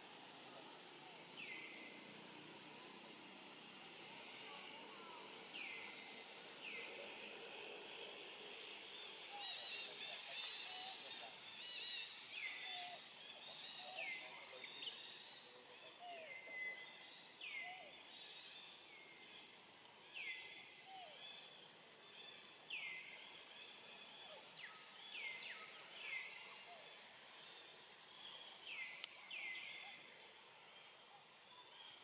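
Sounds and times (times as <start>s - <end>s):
faint outdoor ambience: 0.0s - 32.0s.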